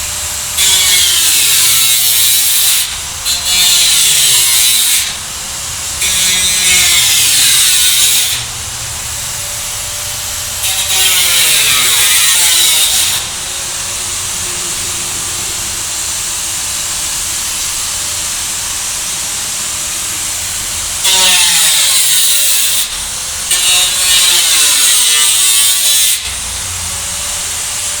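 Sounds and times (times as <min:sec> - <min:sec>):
power tool cutting: 0:00.0 - 0:28.0.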